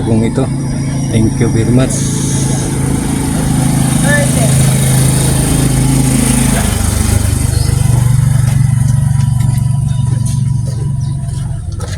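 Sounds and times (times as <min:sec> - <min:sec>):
engine running: 0:00.0 - 0:11.9.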